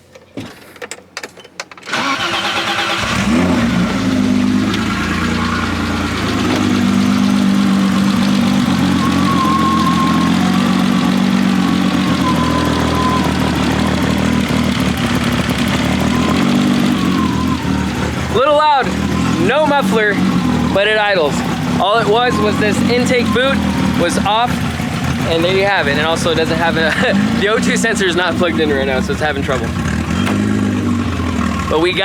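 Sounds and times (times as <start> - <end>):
car engine starting and idling: 1.8 - 32.0.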